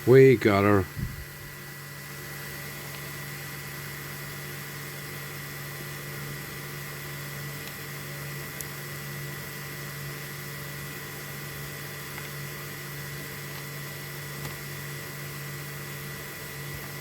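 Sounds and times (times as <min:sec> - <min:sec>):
small machine humming and hissing: 0:00.0 - 0:17.0.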